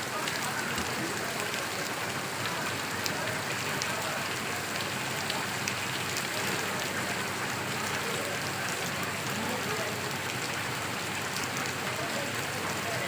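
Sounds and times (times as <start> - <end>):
raindrops ticking on surface: 0.0 - 13.0
steady rain hiss: 0.0 - 13.0.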